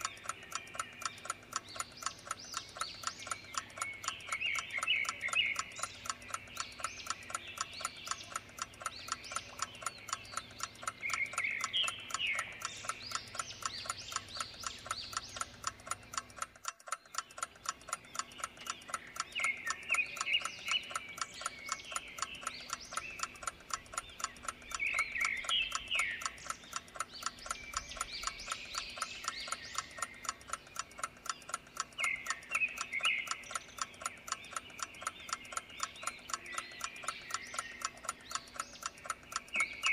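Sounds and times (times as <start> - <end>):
birds chirping: 0.0 - 39.9
clock ticking: 0.0 - 39.9.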